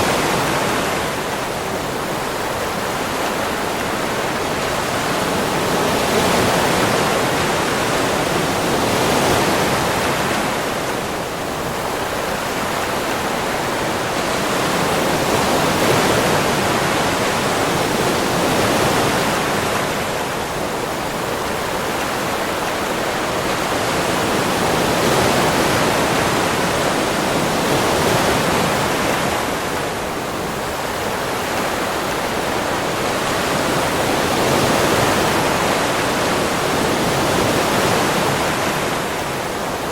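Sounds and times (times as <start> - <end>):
sea waves on a beach: 0.0 - 39.9.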